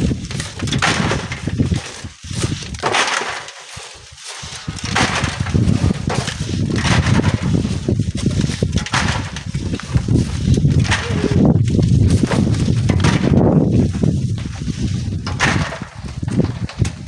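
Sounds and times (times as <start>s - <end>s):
wind buffeting the microphone: 0.0s - 2.9s, 3.7s - 17.0s.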